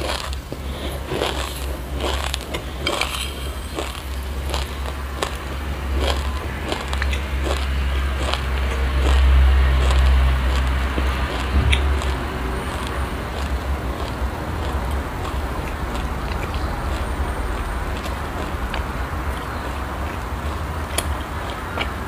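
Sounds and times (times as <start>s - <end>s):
low rumble: 0.0s - 21.5s
crunchy seeds being chewed: 0.0s - 22.0s.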